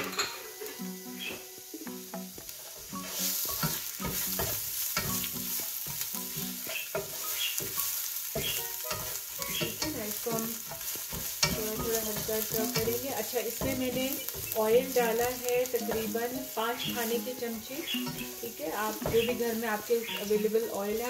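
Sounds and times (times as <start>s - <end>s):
food sizzling in hot oil: 0.0s - 21.0s
spatula stirring and scraping: 2.3s - 21.0s.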